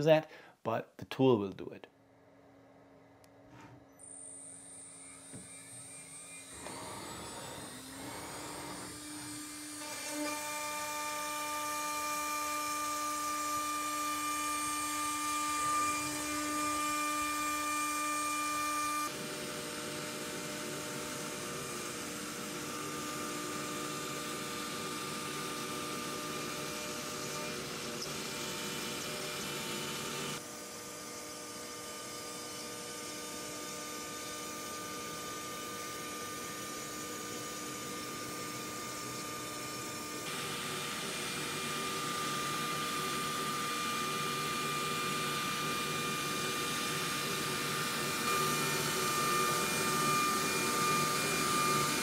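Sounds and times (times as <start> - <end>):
router spindle whining: 3.8 - 52.0.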